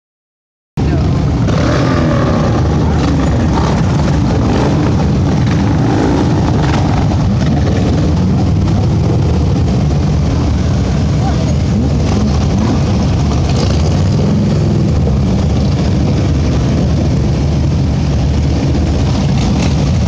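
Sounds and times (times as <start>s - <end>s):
motorcycle engines rumbling past: 0.8s - 20.0s.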